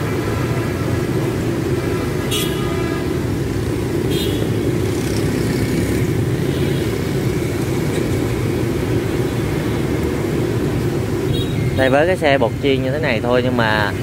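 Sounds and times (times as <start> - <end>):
kerosene burner rushing: 0.0 - 14.0.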